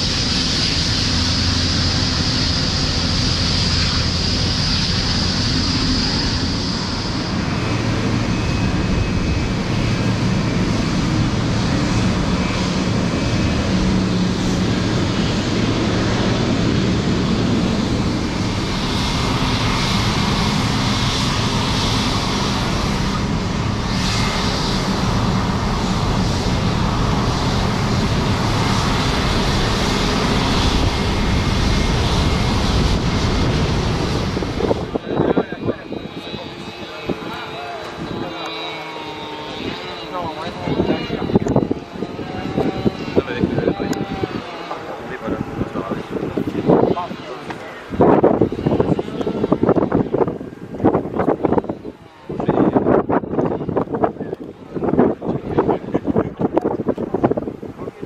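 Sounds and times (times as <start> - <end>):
airliner engines running: 0.0 - 58.0
high engine whine: 0.0 - 58.0.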